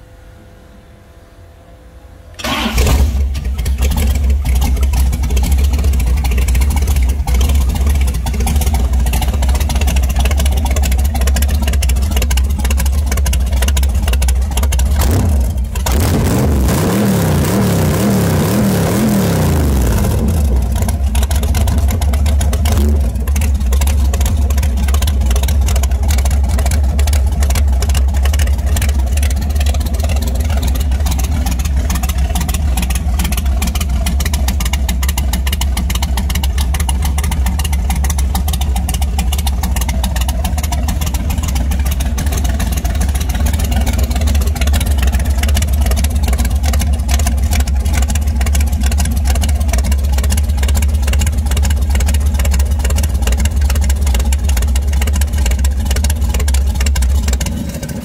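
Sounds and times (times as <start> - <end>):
motorcycle engine idling: 3.2 - 15.9, 20.1 - 58.0.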